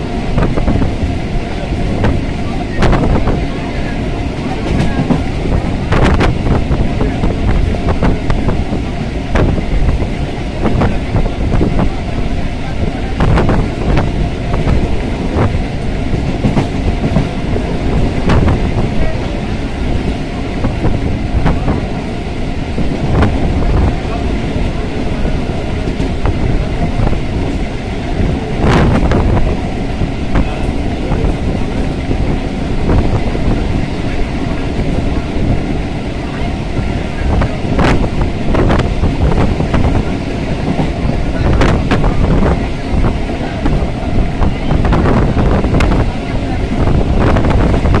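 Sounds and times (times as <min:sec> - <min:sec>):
train rumbling: 0:00.0 - 0:48.0
train wheels clacking over rails: 0:00.0 - 0:48.0
wind buffeting microphone: 0:00.0 - 0:48.0.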